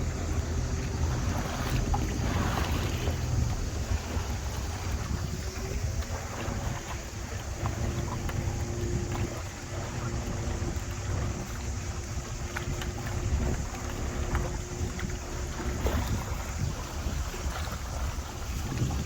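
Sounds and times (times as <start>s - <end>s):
boat motor rumbling: 0.0s - 19.0s
wind buffeting microphone: 0.0s - 19.0s.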